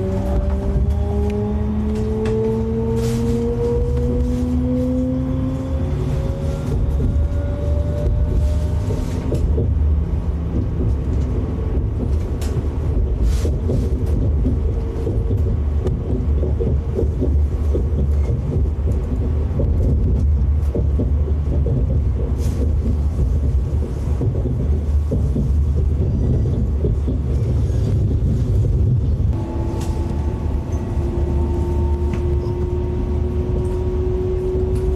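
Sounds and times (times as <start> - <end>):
train rumbling: 0.0 - 34.9.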